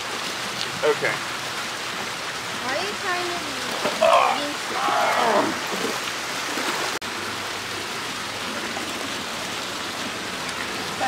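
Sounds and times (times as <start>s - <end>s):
fountain jets splashing water: 0.0s - 11.0s.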